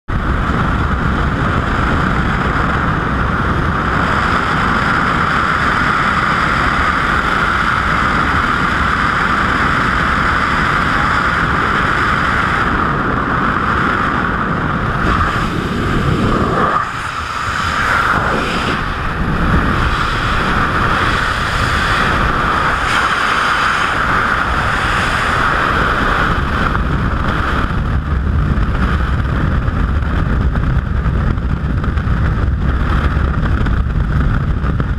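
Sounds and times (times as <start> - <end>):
freefall wind rushing: 0.1 - 34.9
wind and propeller wash: 0.1 - 34.9.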